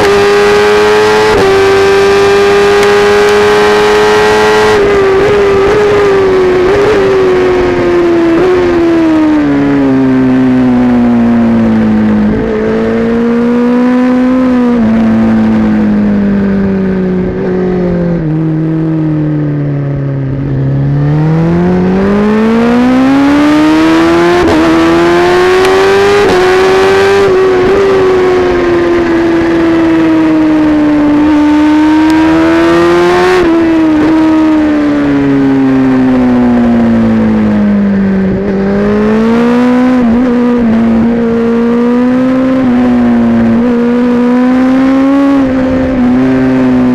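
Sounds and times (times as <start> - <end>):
motorcycle engine at race pace: 0.0 - 46.9.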